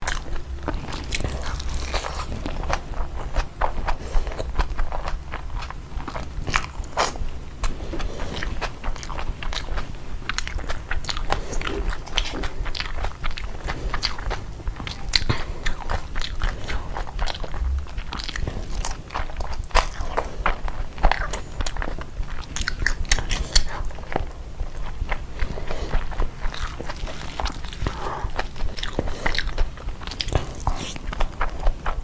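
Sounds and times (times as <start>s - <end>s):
person chewing and crunching: 0.0s - 32.0s.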